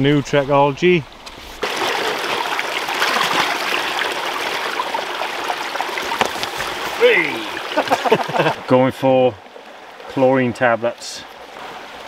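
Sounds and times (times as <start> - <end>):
stream babbling over stones: 0.0 - 12.0.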